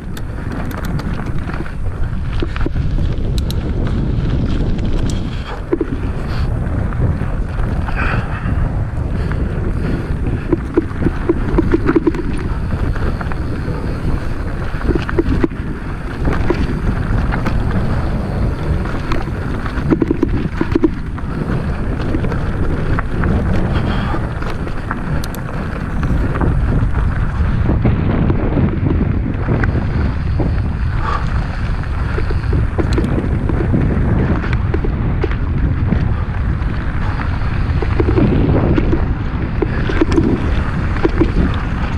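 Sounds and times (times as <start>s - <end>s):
bike clicks and rattles: 0.0s - 41.9s
knobby tyres rolling on dirt: 0.0s - 41.9s
wind buffeting microphone: 0.0s - 41.9s.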